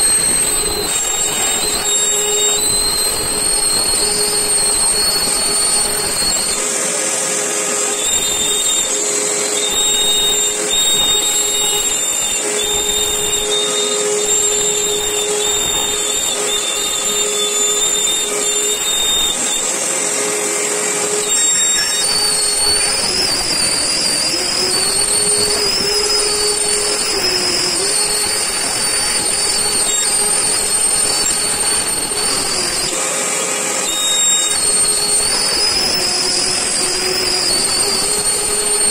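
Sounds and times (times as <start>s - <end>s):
router spindle whine: 0.0s - 38.9s
shop vacuum rushing: 0.0s - 38.9s.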